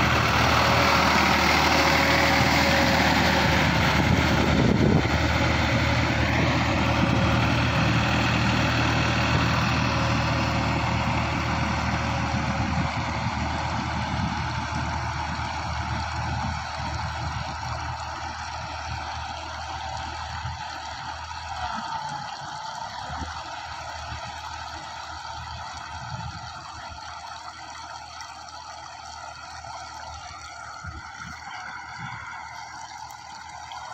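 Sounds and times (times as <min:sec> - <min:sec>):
low engine hum: 0:00.0 - 0:33.9
water churning and splashing: 0:00.0 - 0:33.9.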